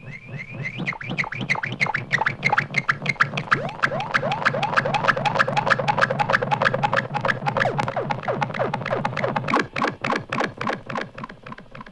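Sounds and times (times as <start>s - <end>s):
electronic dub music from vinyl: 0.0s - 11.9s.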